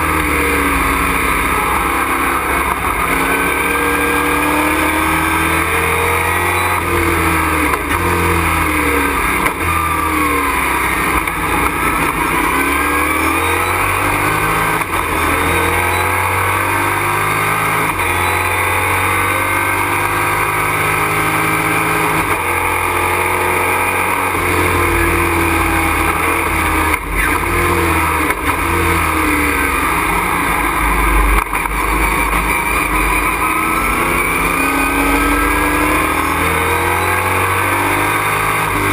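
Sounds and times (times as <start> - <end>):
race truck engine revving: 0.0 - 38.9.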